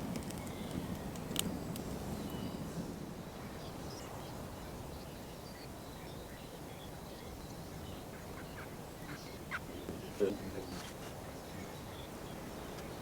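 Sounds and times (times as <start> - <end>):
low steady background noise: 0.0 - 13.0
faint birdsong: 0.1 - 13.0.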